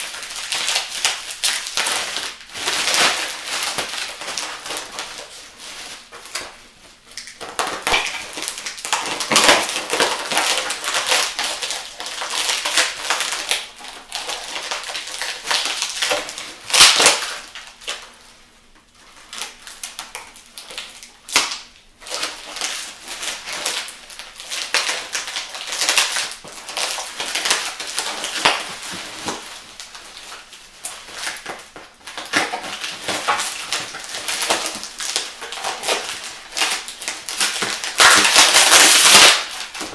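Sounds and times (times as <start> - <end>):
packing tape being torn off: 0.0 - 18.2, 19.3 - 39.9
bubble wrap crinkling: 0.0 - 39.9.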